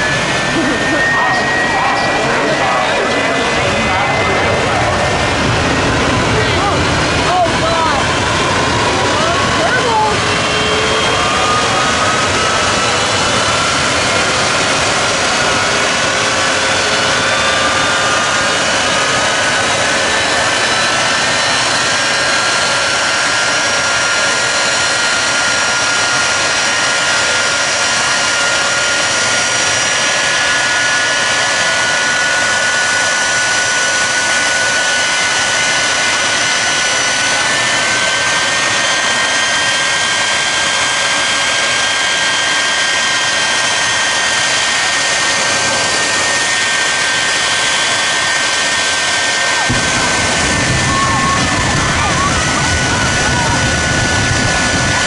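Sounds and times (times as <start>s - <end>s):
high jet whines: 0.0s - 55.0s
jet engines rushing: 0.0s - 55.0s.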